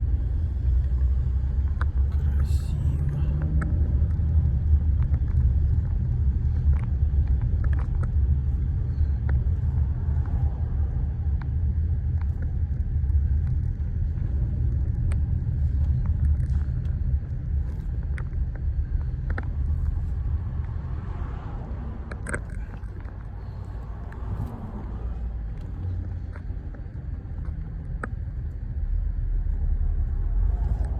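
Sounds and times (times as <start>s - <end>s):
car cabin rumble: 0.0s - 30.9s.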